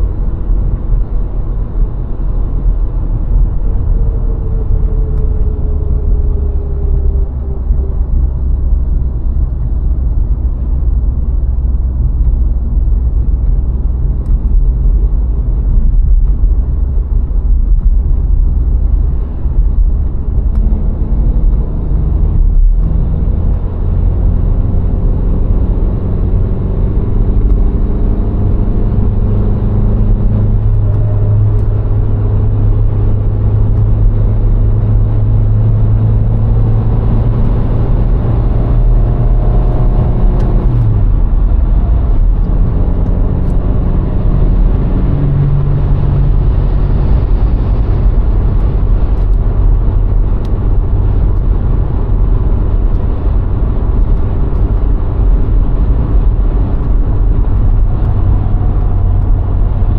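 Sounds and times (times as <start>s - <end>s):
car engine running: 0.0s - 59.9s
tyre and road noise: 0.0s - 59.9s.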